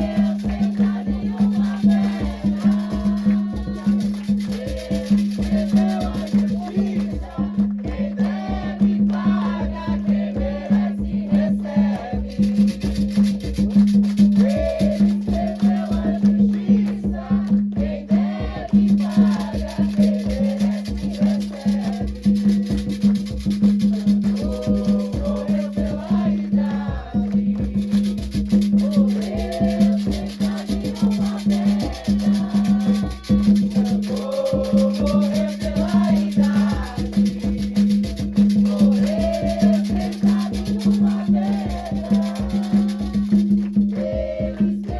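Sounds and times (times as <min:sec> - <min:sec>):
drumming: 0:00.0 - 0:44.9
group singing: 0:00.0 - 0:44.9
rattles and shakers: 0:00.0 - 0:44.9.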